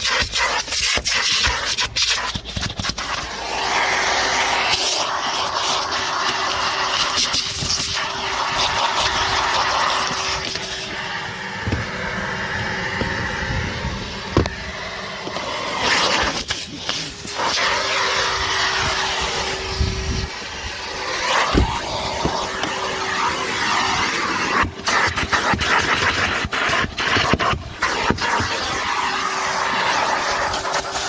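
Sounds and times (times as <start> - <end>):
nozzle scraping over surfaces: 0.0 - 31.0
vacuum cleaner running: 0.0 - 31.0.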